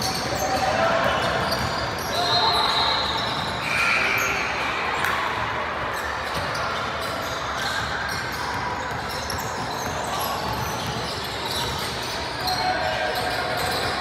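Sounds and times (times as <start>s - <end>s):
gym background noise: 0.0s - 14.0s.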